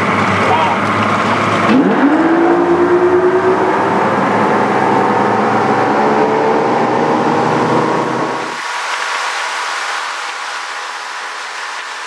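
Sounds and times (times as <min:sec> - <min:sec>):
outboard motors accelerating: 0:00.0 - 0:12.0.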